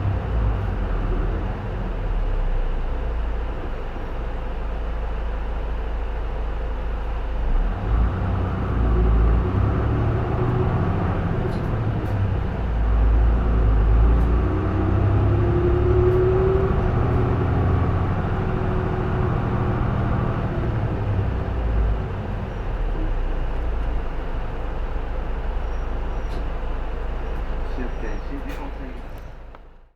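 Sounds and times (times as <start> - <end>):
bus diesel engine running: 0.0 - 29.9.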